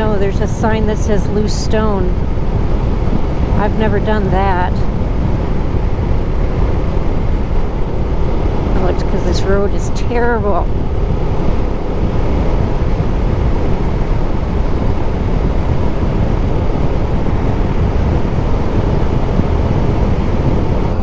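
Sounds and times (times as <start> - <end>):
road rumble: 0.0 - 21.0
wind rush on microphone: 0.0 - 21.0.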